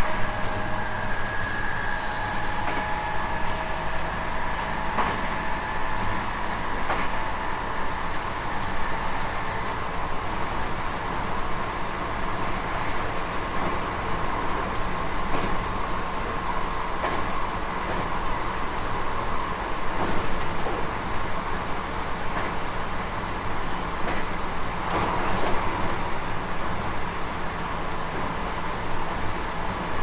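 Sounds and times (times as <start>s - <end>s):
steady train whine: 0.0s - 30.0s
train rolling noise: 0.0s - 30.0s.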